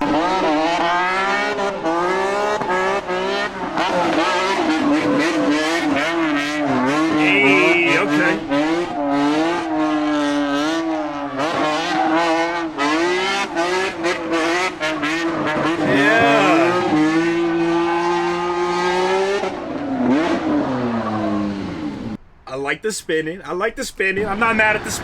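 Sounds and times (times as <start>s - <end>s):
racing car engine revving: 0.0s - 22.2s.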